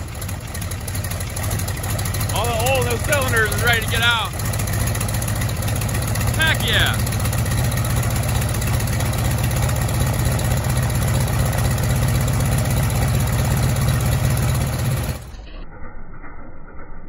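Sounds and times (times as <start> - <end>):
radial aircraft engine running: 0.0 - 15.5.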